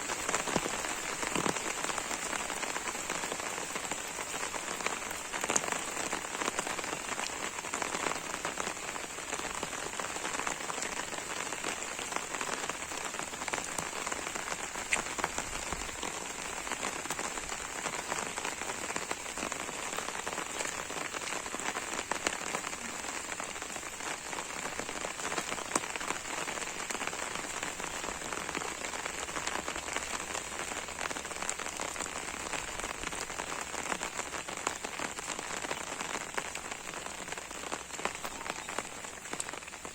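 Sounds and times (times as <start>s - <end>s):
sharp raindrop hits: 0.0s - 39.9s
steady rain falling: 0.0s - 39.9s.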